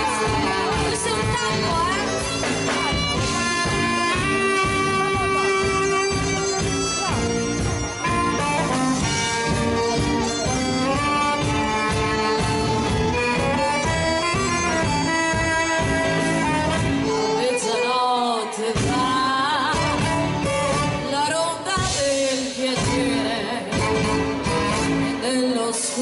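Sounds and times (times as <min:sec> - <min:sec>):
live band playing: 0:00.0 - 0:26.0.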